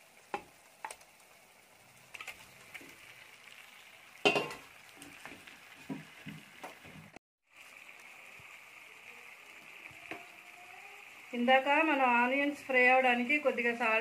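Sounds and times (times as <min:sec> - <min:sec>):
chicken sizzling in pot: 0:00.0 - 0:14.0.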